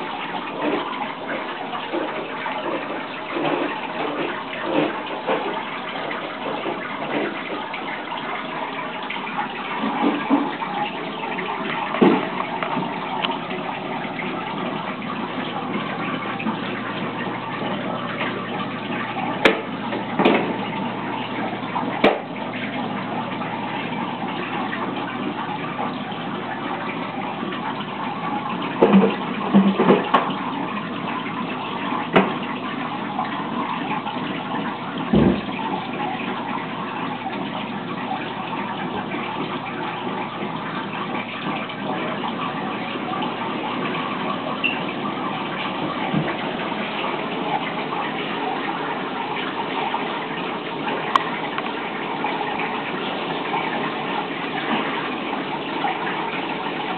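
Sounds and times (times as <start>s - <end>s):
aquarium water pouring: 0.0s - 56.9s.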